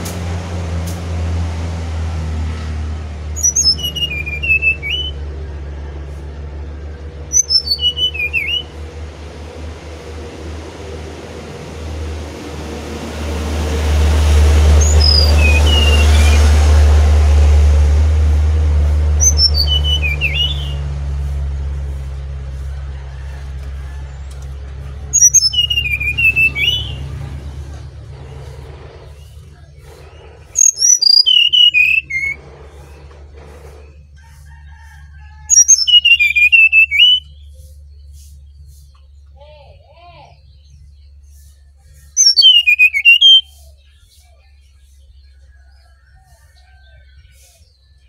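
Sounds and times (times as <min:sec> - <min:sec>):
low engine rumble: 0:00.0 - 0:48.0
bird singing: 0:03.2 - 0:12.7, 0:13.8 - 0:17.6, 0:18.6 - 0:22.0, 0:23.9 - 0:48.0.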